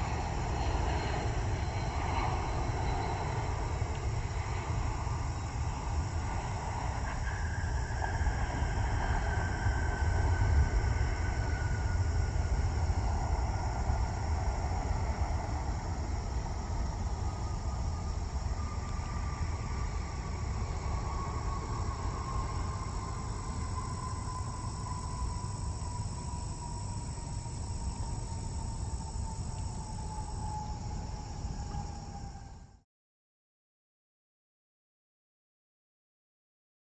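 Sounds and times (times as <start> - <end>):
distant jet engines winding down: 0.0 - 32.8.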